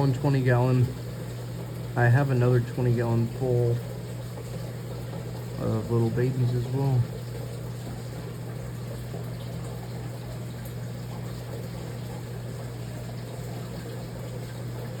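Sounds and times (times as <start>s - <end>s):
low motor hum: 0.0s - 15.0s
water trickling and splashing: 0.0s - 15.0s.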